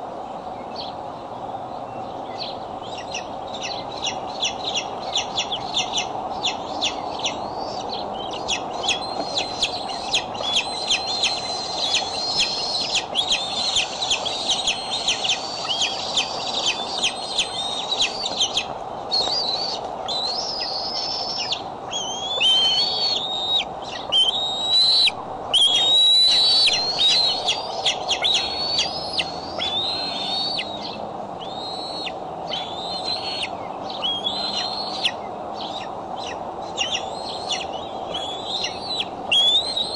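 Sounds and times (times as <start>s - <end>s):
eagle piping calls: 3.0s - 39.9s
eagle chirps: 6.8s - 39.9s.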